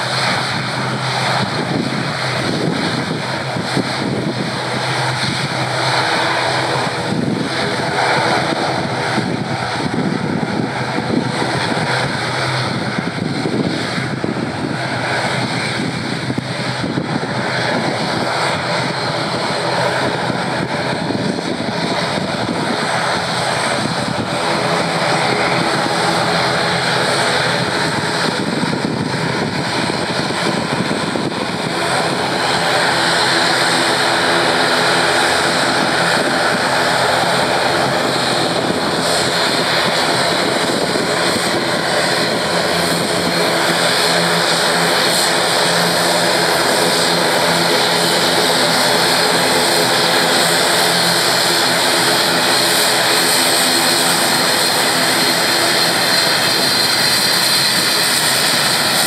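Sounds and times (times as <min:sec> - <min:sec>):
high turbine whine: 0:00.0 - 0:59.0
propeller drone: 0:00.0 - 0:59.0.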